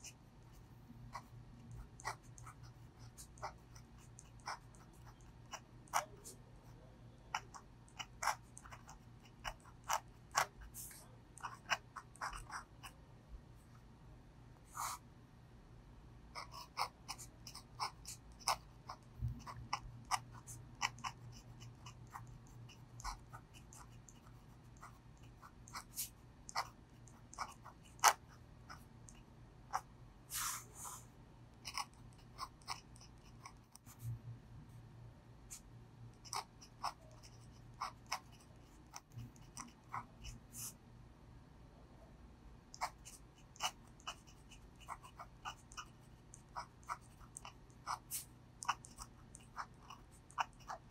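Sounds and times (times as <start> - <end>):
pen nib scratching on paper: 0.0 - 13.0, 14.6 - 15.0, 16.4 - 34.2, 35.5 - 40.8, 42.7 - 50.9
faint low hum: 0.0 - 50.9.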